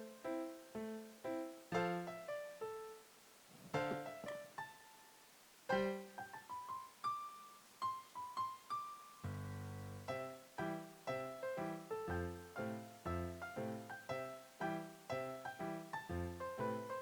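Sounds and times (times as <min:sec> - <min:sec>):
piano music: 0:00.0 - 0:03.1, 0:03.7 - 0:05.1, 0:05.7 - 0:17.0.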